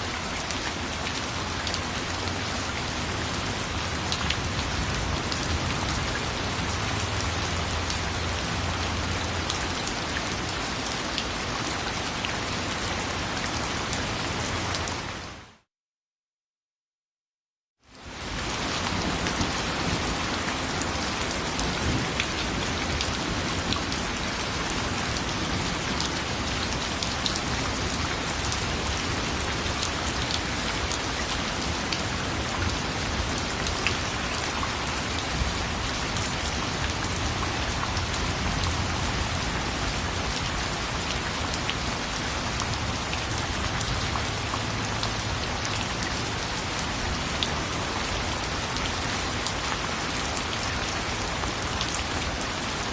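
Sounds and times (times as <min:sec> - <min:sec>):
rain falling: 0:00.0 - 0:15.7, 0:17.8 - 0:52.9.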